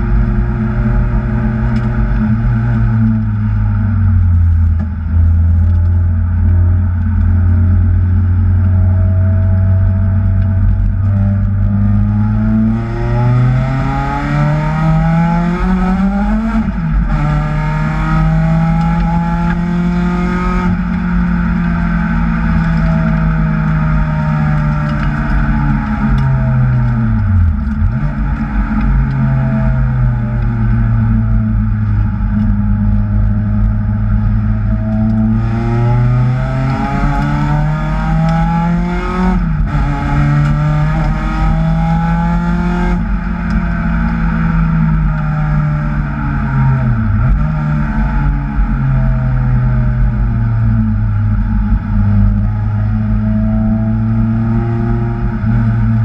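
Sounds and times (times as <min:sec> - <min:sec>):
car engine revving under load: 0:00.0 - 0:56.0.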